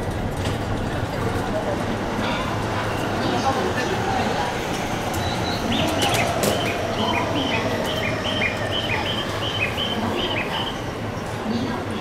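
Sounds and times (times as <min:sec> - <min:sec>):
train rolling low rumble: 0:00.0 - 0:12.0.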